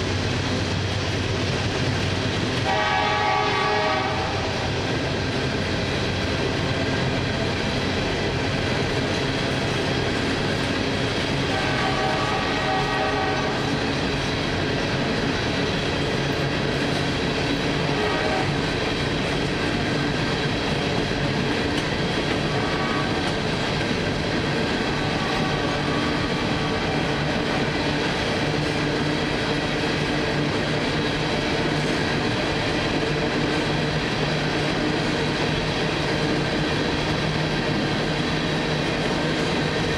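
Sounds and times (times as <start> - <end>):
steel wheels on rail: 0.0 - 39.9.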